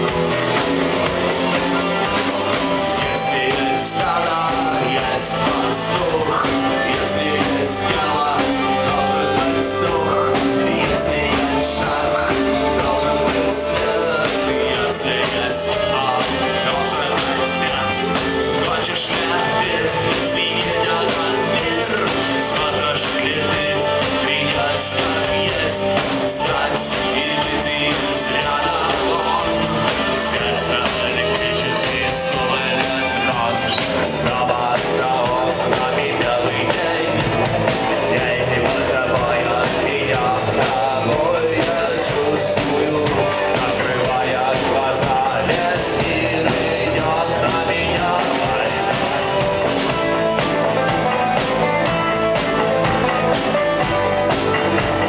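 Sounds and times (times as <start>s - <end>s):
bass guitar: 0.0s - 55.0s
drums with cymbal hits: 0.0s - 55.0s
electric guitars: 0.0s - 55.0s.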